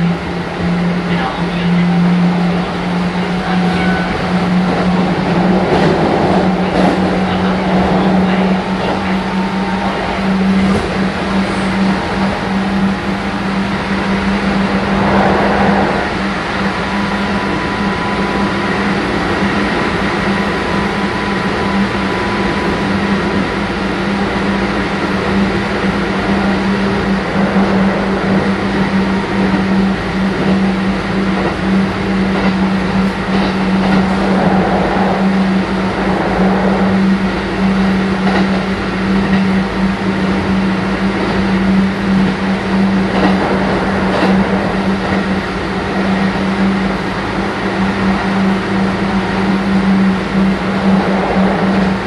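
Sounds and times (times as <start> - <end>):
electric train hum: 0.0 - 52.0
train rolling rumble: 0.0 - 52.0.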